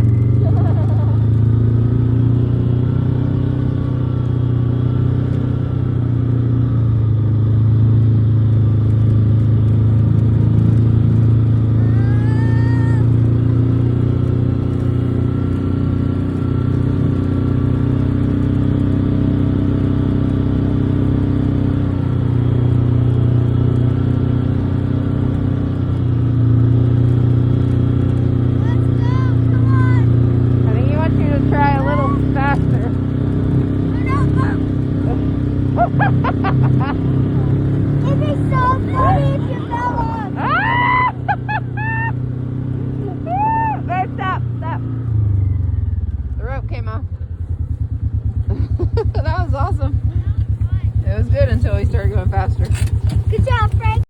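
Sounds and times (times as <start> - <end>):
vehicle engine running at low speed: 0.0 - 54.0.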